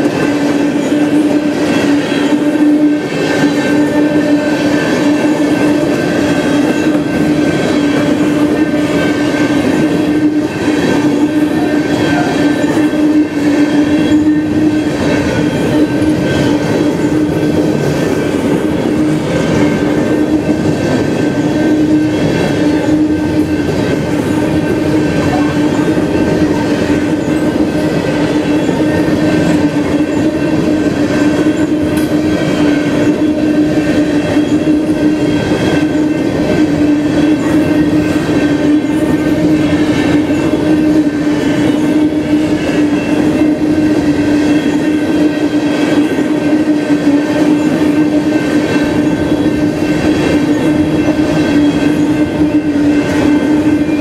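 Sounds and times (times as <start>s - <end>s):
steady ringing tone: 0.0s - 54.0s
train wheels clacking on rails: 0.0s - 54.0s.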